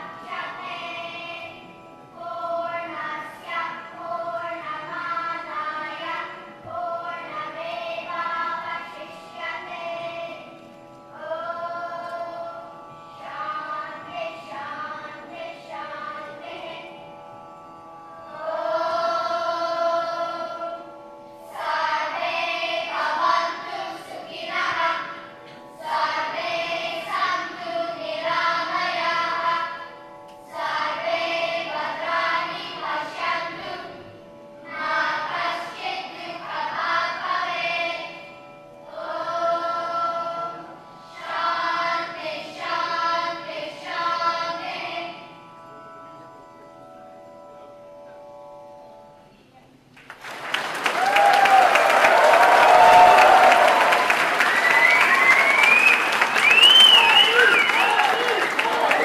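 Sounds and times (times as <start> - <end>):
children's choir singing: 0.0 - 17.0, 18.3 - 45.4, 50.9 - 59.0.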